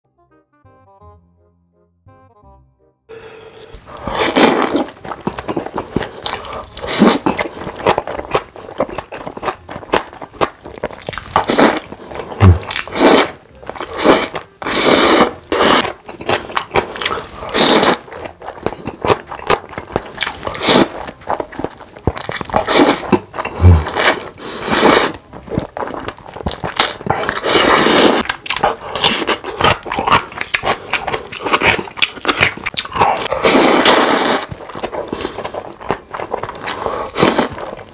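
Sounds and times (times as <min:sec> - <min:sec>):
chewing: 0:03.6 - 0:37.9
noodles being slurped: 0:03.6 - 0:37.9.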